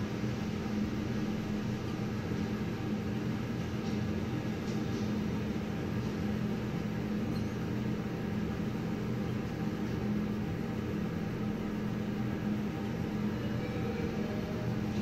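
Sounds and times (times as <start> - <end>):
elevator running hum: 0.0 - 15.0.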